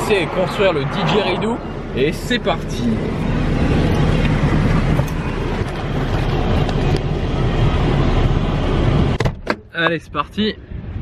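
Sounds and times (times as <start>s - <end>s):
car interior road and engine noise: 0.0s - 11.0s.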